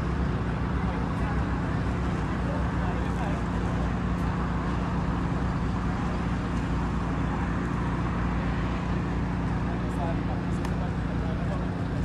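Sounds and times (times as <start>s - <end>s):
engine running hum: 0.0s - 12.0s.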